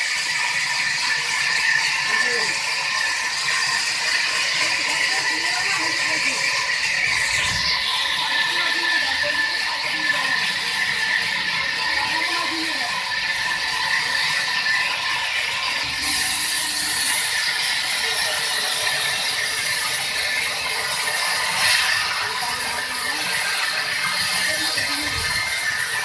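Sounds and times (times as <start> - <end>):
sawmill saw cutting wood: 0.0 - 26.0.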